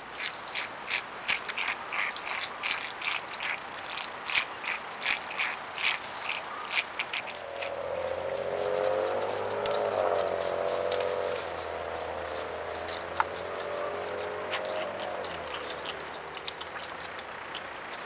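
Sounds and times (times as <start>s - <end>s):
animal lapping water: 0.0s - 18.0s
steady droning hum: 0.0s - 18.0s.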